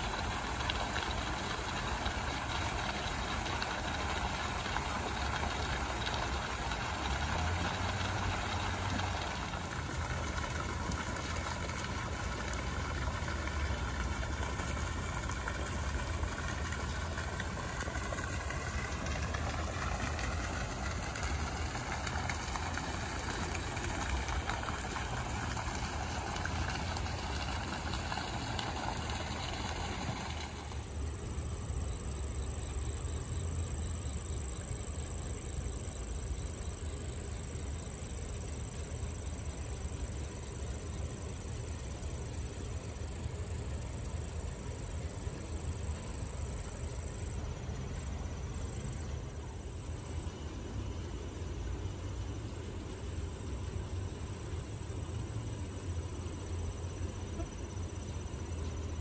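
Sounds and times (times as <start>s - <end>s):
wash of noise: 0.0s - 57.3s.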